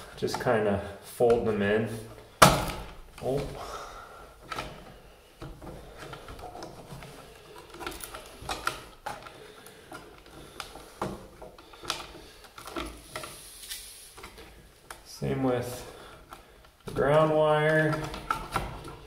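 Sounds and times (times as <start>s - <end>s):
wires clicking and rustling: 0.0s - 19.0s.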